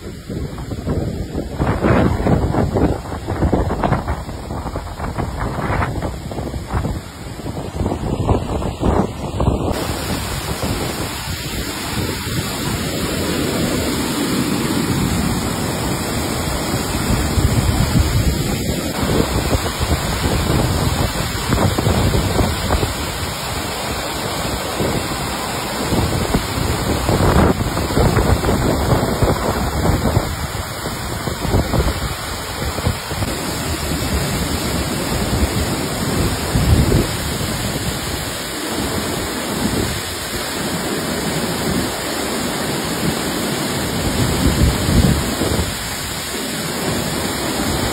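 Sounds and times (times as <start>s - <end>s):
wind buffeting microphone: 0.0s - 42.1s, 43.8s - 47.9s
waterfall rushing: 0.0s - 47.9s.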